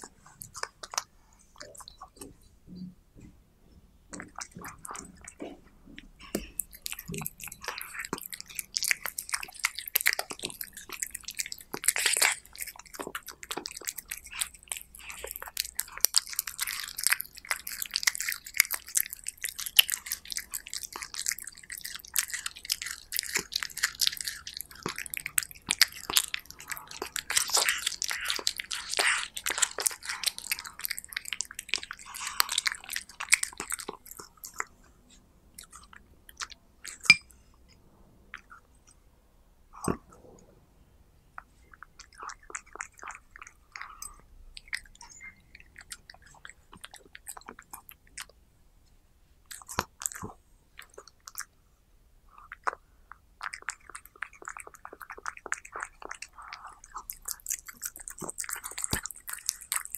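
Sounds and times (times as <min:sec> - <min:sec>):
cat chewing meat: 0:00.0 - 0:02.5, 0:04.1 - 0:37.6, 0:41.4 - 0:48.4, 0:49.5 - 0:51.5, 0:52.2 - 0:59.9.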